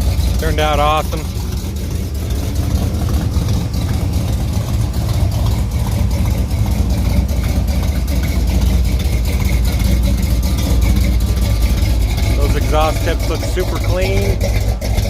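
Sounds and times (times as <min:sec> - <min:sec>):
engine idling with deep exhaust rumble: 0:00.0 - 0:15.0.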